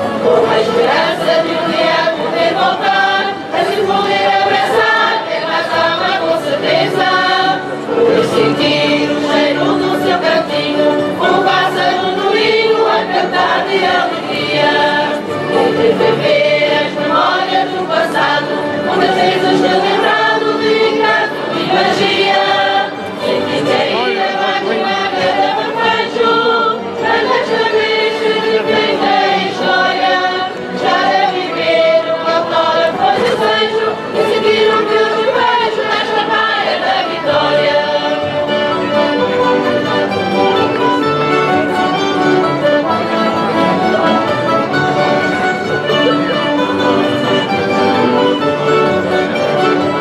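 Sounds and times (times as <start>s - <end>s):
mixed choir singing a carol: 0.0s - 50.0s.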